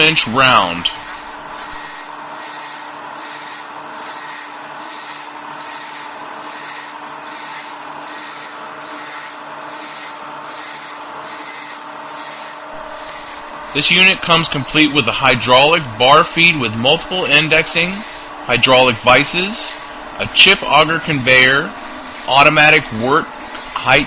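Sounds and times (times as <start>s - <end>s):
bandsaw cutting steel: 0.6s - 24.0s.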